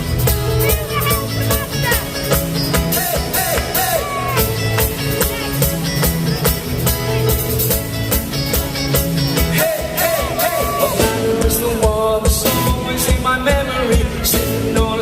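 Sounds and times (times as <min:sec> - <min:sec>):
drums steady beat: 0:00.0 - 0:15.0
live rock band playing: 0:00.0 - 0:15.0.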